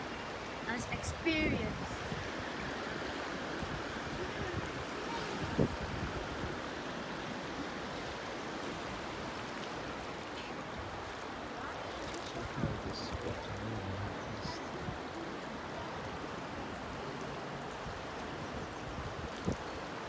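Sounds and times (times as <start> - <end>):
fast-flowing river rushing: 0.0 - 20.0.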